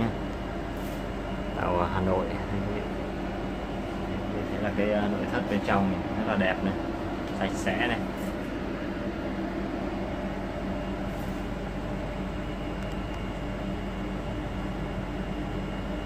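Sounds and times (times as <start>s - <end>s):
air conditioning hum: 0.0s - 16.0s.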